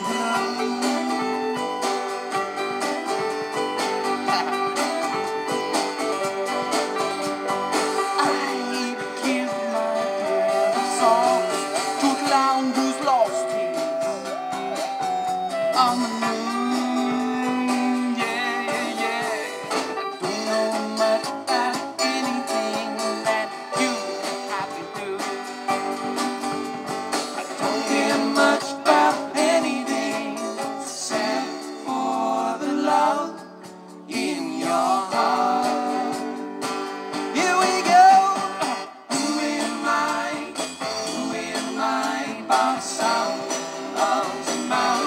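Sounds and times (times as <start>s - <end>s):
person singing: 0.0s - 25.8s, 27.6s - 33.5s, 34.1s - 36.6s, 37.2s - 45.0s
strummed guitars: 0.0s - 45.0s.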